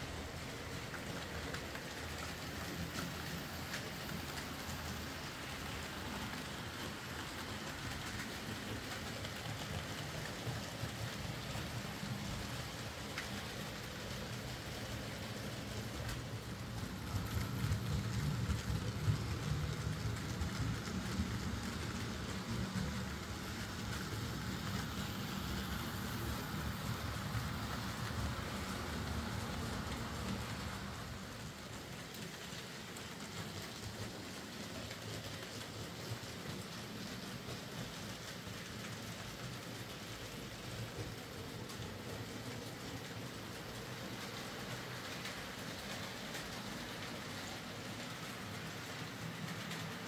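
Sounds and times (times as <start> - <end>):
model train wheels rumbling on track: 0.0 - 50.0.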